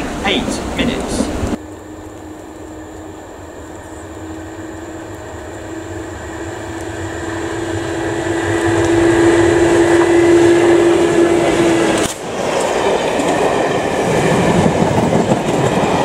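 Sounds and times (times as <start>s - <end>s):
train hum and rail noise: 0.0s - 16.0s.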